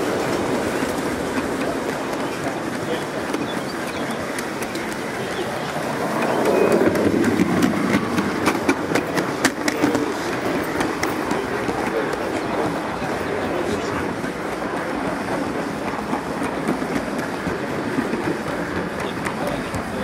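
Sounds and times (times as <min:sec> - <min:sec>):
model train wheels clicking: 0:00.0 - 0:20.0.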